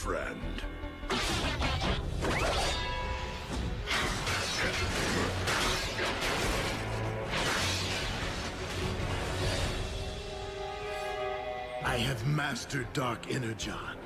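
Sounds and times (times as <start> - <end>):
background score music: 0.0 - 14.0.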